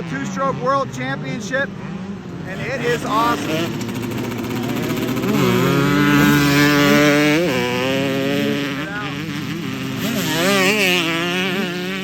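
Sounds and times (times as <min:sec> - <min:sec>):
motocross bikes racing past: 0:00.0 - 0:12.0.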